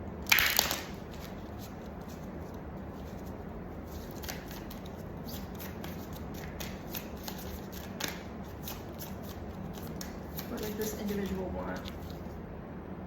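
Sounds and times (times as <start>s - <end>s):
cards being shuffled: 0.3s - 12.4s.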